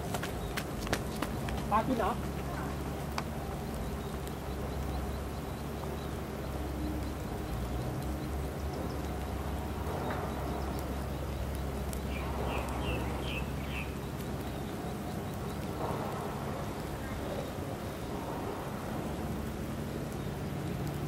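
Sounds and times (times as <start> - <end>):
low steady hum: 0.0 - 21.0
rain falling: 0.0 - 21.0.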